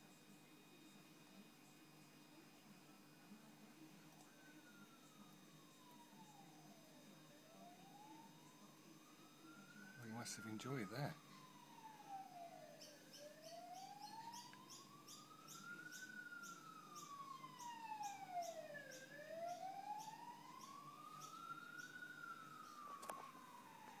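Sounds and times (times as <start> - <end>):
faint siren wailing: 0.0 - 24.0
steady low hum: 0.0 - 24.0.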